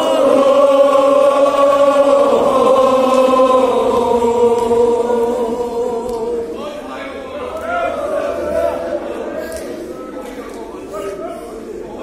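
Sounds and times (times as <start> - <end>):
men chanting: 0.0 - 10.2.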